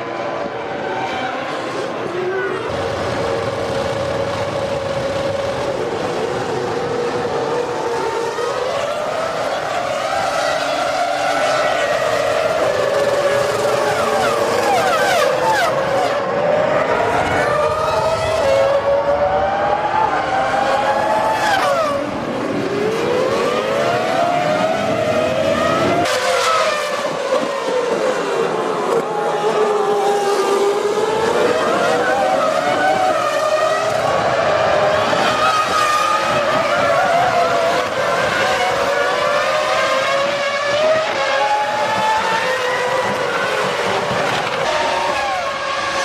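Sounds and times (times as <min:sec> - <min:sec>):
racing car engines at high revs: 0:00.0 - 0:46.0.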